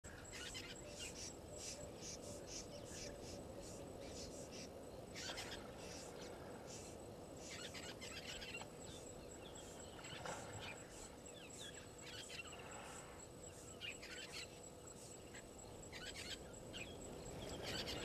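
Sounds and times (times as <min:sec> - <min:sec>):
insects and birds chirping: 0:00.0 - 0:18.0
high-pitched insect trill: 0:00.1 - 0:18.0.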